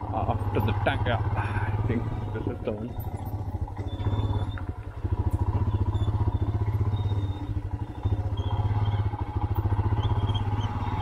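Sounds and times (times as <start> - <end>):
motorcycle engine thumping: 0.2 - 10.8.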